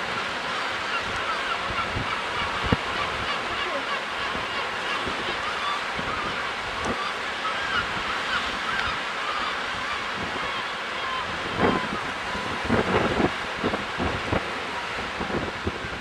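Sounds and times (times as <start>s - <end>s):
seabirds calling: 0.0s - 16.0s
wind and surf: 0.0s - 16.0s.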